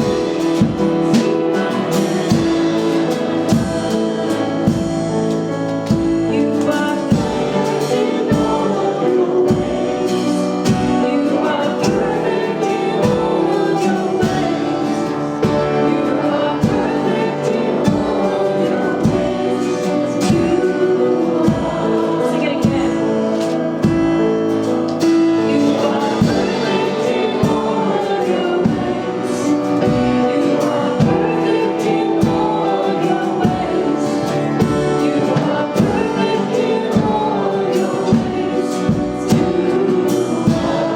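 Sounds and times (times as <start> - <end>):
band playing: 0.0 - 40.9
choir-like singing: 0.0 - 40.9
drums steady beat: 0.0 - 40.9.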